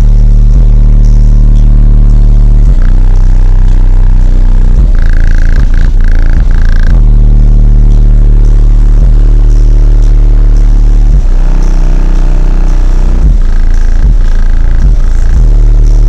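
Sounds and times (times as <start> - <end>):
distorted subwoofer bass: 0.0 - 16.0
pulsing higher tone: 2.6 - 16.0.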